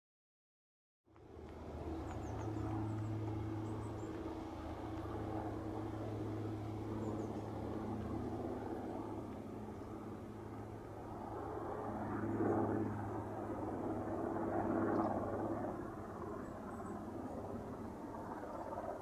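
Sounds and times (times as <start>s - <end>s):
distant helicopter drone: 1.1s - 19.0s.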